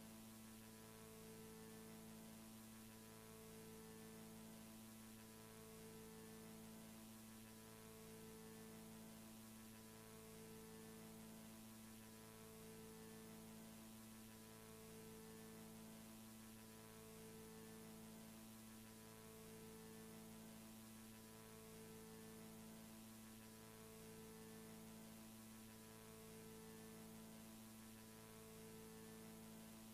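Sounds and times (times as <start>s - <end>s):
faint electrical hum with hiss: 0.0s - 29.9s.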